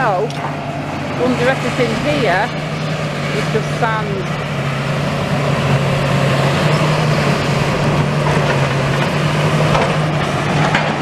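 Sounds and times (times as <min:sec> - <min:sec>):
diesel machinery running: 0:00.0 - 0:11.0.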